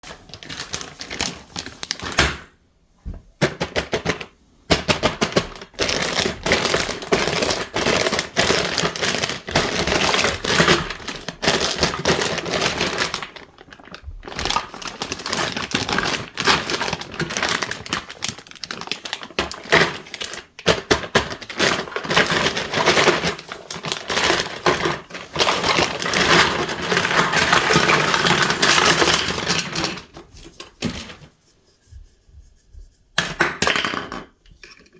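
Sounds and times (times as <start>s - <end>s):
plastic toys clicking and clattering: 3.4s - 31.2s, 33.2s - 34.9s.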